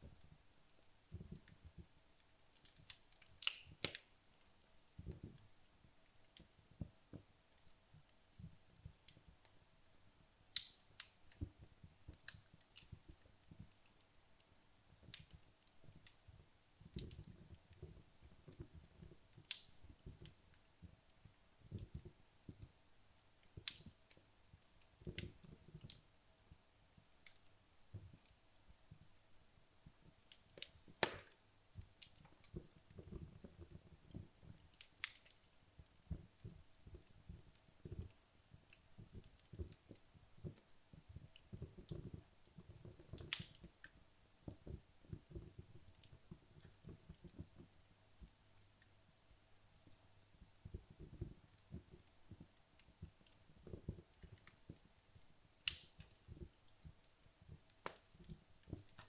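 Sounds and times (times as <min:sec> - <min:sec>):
logs crackling and popping: 0:00.0 - 0:59.0.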